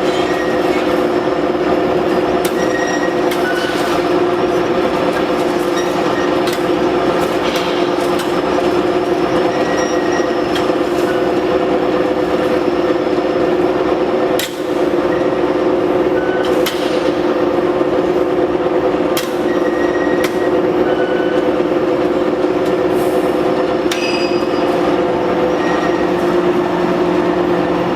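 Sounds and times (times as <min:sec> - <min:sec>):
machine humming with pitched drone: 0:00.0 - 0:27.9.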